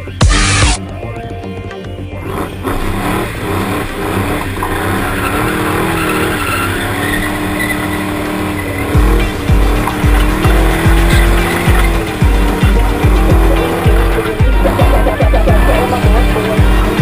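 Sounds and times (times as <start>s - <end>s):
car engine at high revs: 2.2s - 17.0s
tyres squealing: 2.4s - 17.0s.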